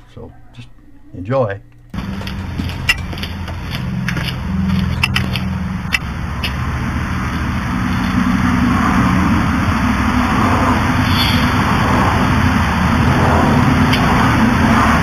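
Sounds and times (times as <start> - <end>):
compressed-air engine running: 2.0 - 15.0.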